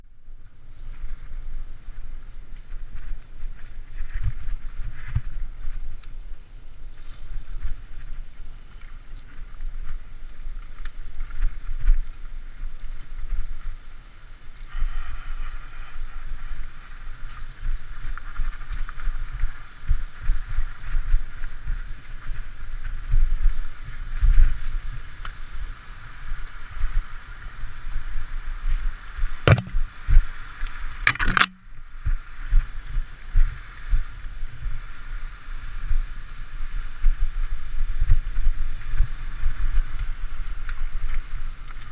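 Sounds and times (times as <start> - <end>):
wind and trail bumps rumble: 0.0 - 41.9
steady hiss: 0.1 - 41.9.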